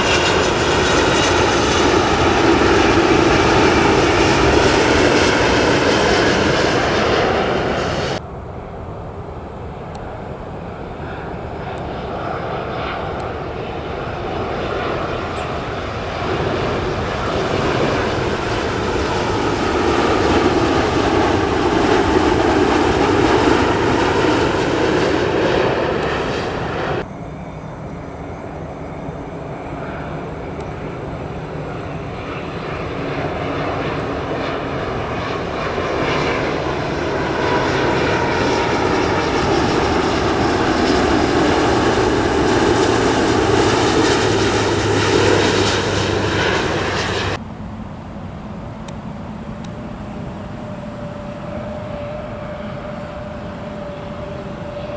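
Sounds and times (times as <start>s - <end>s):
jet airliner engines passing: 0.0s - 54.9s.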